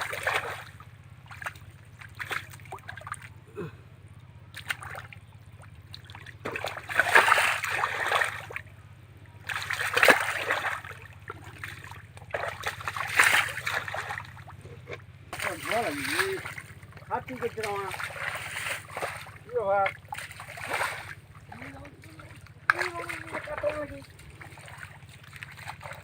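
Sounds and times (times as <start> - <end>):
steady low hum: 0.0 - 26.0
water splashing and sloshing: 0.0 - 26.0.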